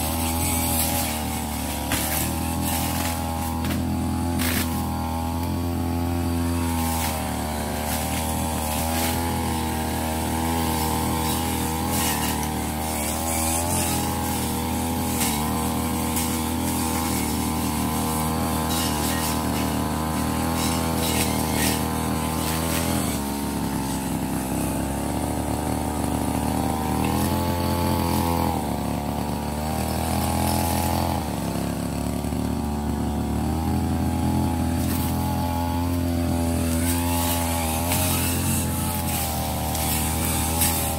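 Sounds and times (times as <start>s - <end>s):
blade cutting grass: 0.0s - 40.9s
brush cutter engine at high revs: 0.0s - 40.9s.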